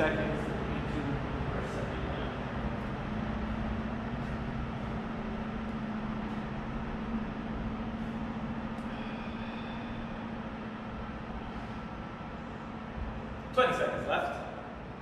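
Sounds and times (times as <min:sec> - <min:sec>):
machinery hum: 0:00.0 - 0:15.0
ventilation rushing: 0:00.0 - 0:15.0.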